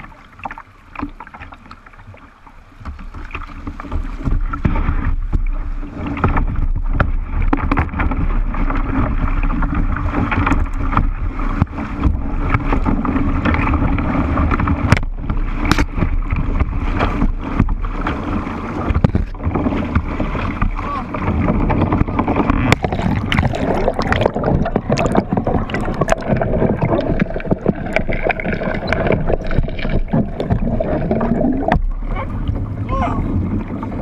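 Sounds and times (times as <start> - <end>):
river water splashing against hull: 0.0 - 34.0
wind buffeting microphone: 6.2 - 34.0.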